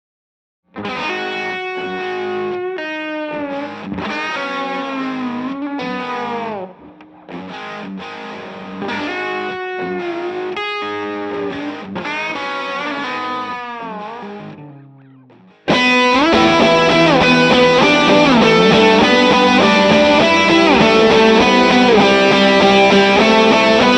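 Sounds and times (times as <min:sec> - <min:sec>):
overdriven electric guitar lead: 0:00.7 - 0:23.9.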